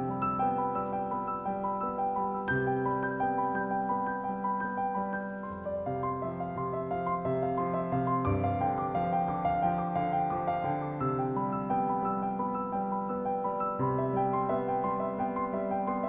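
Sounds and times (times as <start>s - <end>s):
digital piano playing: 0.0s - 16.0s.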